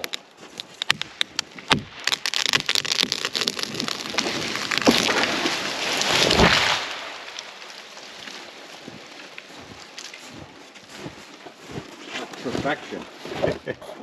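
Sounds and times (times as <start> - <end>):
tree falling with cracking wood: 0.0 - 13.7
branches crackling and snapping: 0.0 - 13.8.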